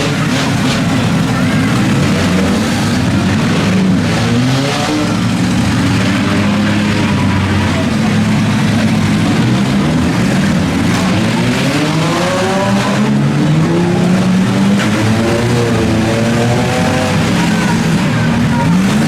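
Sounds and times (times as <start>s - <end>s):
car engines revving loudly: 0.0s - 19.0s.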